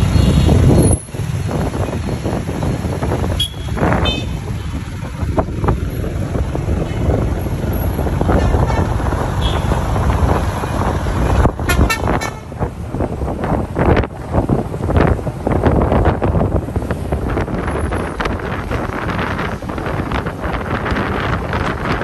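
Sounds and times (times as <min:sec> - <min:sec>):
motorcycle engine rumble: 0:00.0 - 0:22.0
road noise: 0:00.0 - 0:22.0
wind buffeting microphone: 0:00.0 - 0:22.0.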